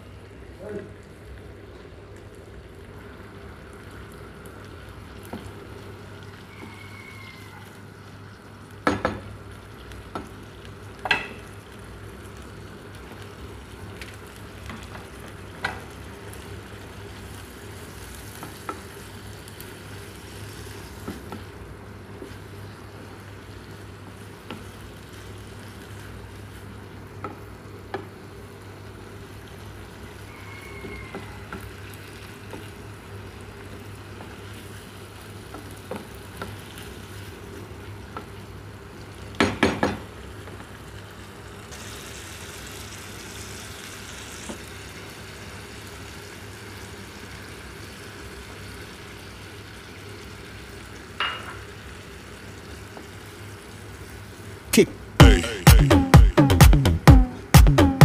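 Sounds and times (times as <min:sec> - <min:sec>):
food sizzling in a frying pan: 0:00.0 - 0:54.8.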